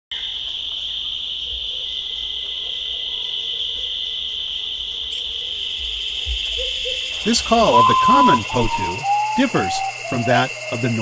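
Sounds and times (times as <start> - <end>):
insects trilling: 0.1 - 11.0.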